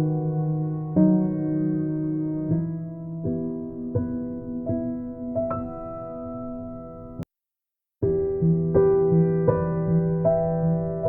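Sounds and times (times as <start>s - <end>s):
soft piano music: 0.0s - 7.2s, 8.0s - 11.0s.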